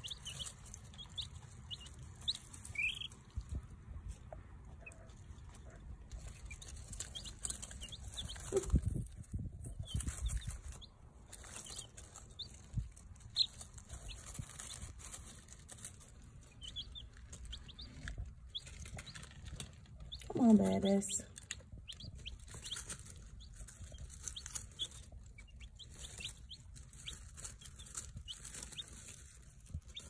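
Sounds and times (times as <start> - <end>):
chicks peeping: 0.0 - 30.0
rustling in wood shavings: 0.0 - 30.0.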